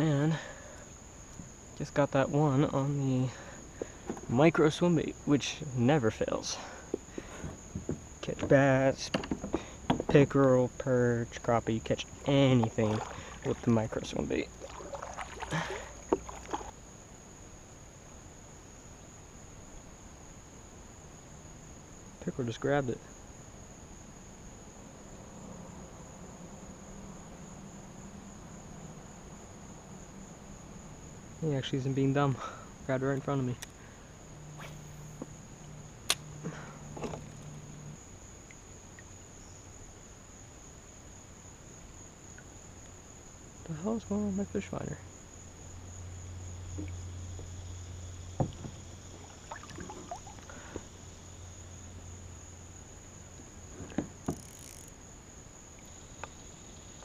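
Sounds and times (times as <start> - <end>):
low steady hum: 0.0 - 54.2
high-pitched insect trill: 0.0 - 57.0
light hiss: 8.8 - 57.0.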